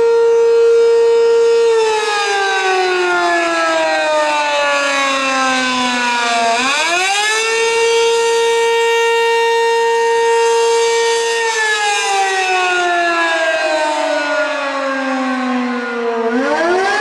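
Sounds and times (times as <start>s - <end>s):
fire siren wailing: 0.0s - 17.0s.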